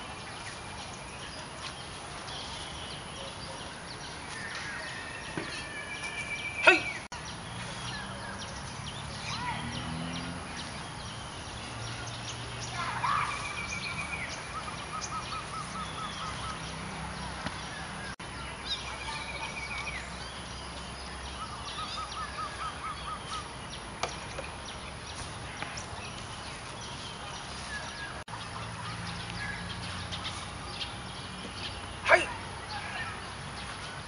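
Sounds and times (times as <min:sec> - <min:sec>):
birds singing: 0:00.0 - 0:34.0
outdoor background noise: 0:00.0 - 0:34.0.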